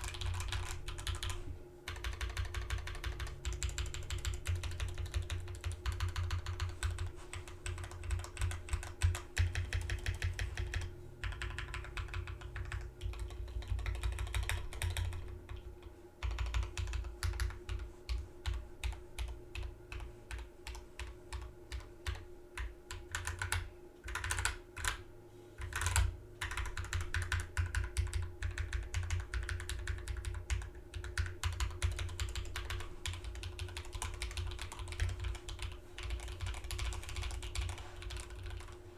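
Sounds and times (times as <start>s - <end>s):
typing on mechanical keyboard: 0.0s - 15.6s, 16.2s - 25.0s, 25.6s - 38.8s.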